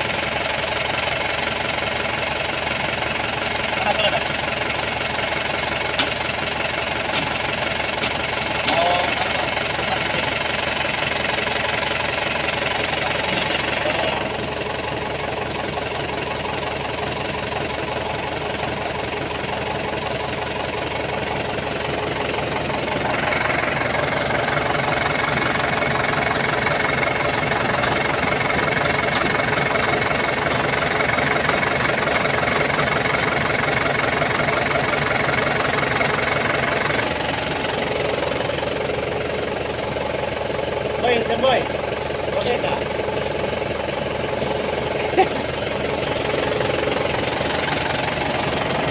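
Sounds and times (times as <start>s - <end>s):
tractor diesel engine idling: 0.0s - 48.9s.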